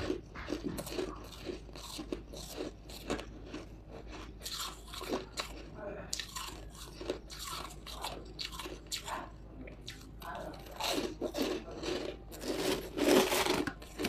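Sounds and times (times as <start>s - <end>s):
ice chunks crunching in mouth: 0.0s - 9.2s, 9.8s - 14.0s.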